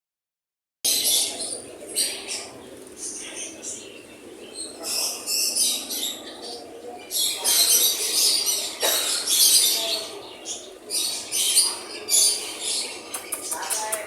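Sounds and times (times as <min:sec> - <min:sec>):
parrots chattering and screeching: 0:00.9 - 0:14.0.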